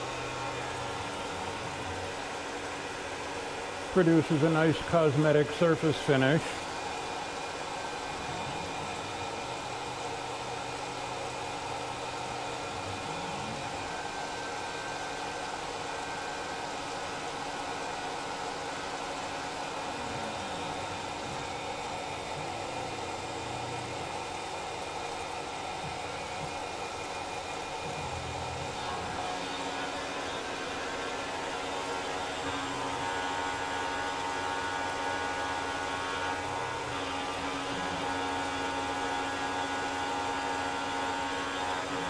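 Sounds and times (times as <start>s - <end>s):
cnc mill spindle and cutting: 0.0s - 42.0s.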